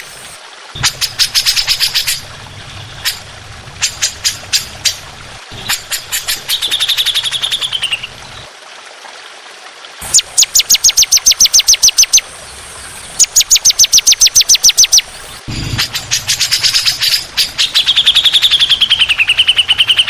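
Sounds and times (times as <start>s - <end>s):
songbird singing: 0.8s - 8.5s, 10.1s - 12.2s, 12.9s - 20.0s.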